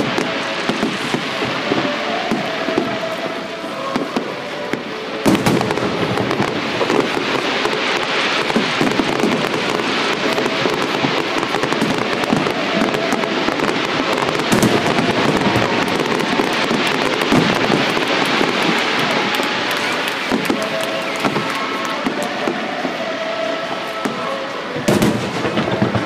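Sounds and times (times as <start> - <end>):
fireworks bursts and crackles: 0.0 - 26.0
heavy fireworks bangs: 0.0 - 26.0.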